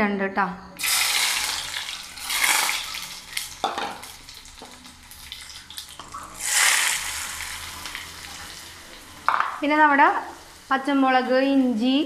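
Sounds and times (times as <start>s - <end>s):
food sizzling in hot oil: 0.8s - 12.0s.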